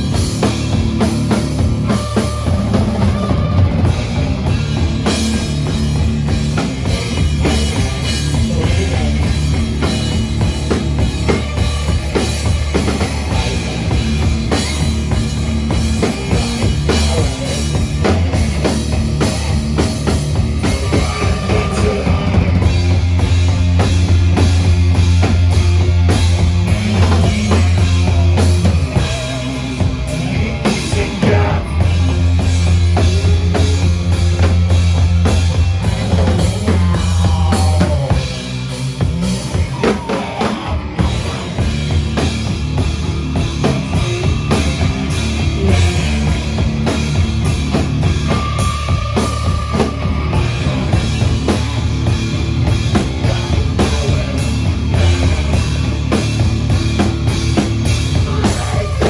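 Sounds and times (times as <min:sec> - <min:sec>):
drum kit: 0:00.0 - 0:59.0
rock band playing live: 0:00.0 - 0:59.0.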